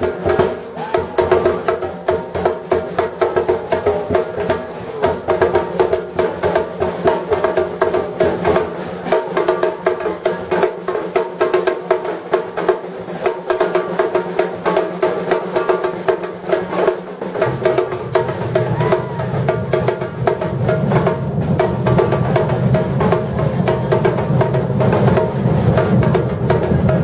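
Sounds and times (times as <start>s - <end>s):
drum ensemble playing: 0.0s - 27.0s.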